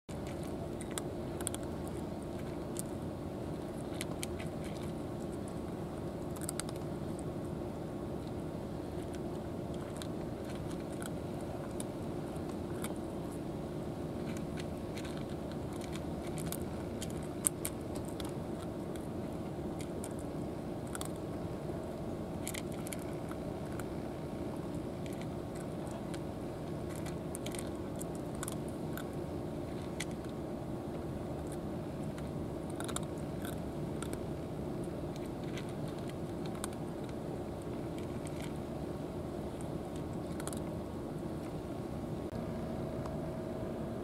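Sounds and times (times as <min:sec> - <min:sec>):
cat crunching dry kibble: 0:00.1 - 0:43.6
low background rumble: 0:00.1 - 0:44.0.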